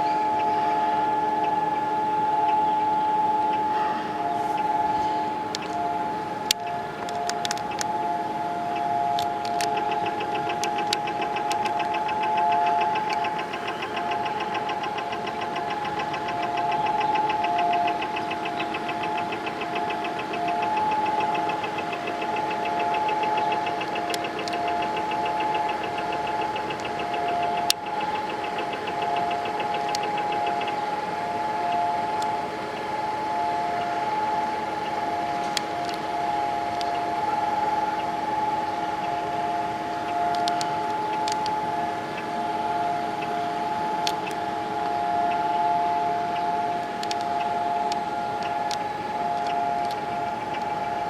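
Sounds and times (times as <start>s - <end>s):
faint rapid ticking: 0.0s - 51.0s
steady siren tone: 0.0s - 51.0s.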